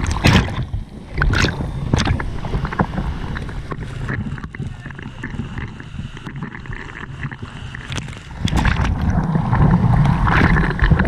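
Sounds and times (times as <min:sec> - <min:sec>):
water lapping against surfboard: 0:00.0 - 0:11.0.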